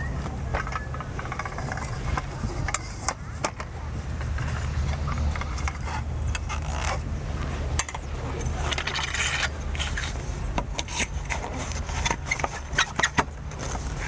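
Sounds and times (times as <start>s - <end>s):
low engine hum: 0.0s - 14.0s
sharp clicks and knocks: 0.2s - 7.0s, 7.7s - 13.8s.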